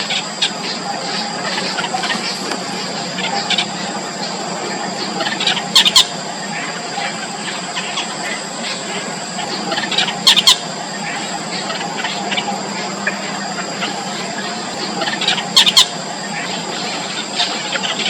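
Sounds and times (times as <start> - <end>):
nestlings squeaky begging calls: 0.0 - 18.0.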